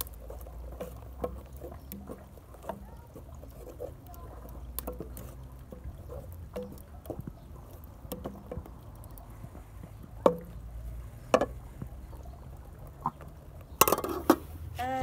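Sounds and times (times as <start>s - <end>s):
spoon stirring stew: 0.0s - 14.7s.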